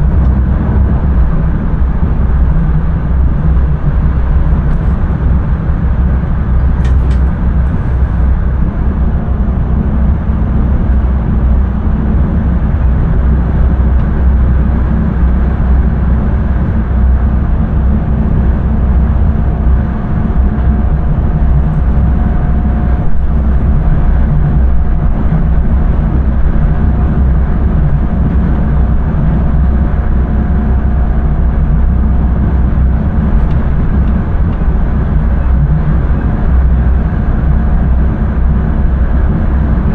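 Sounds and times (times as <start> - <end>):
faint steady whine: 0.0 - 39.9
train wheels rumbling: 0.0 - 39.9.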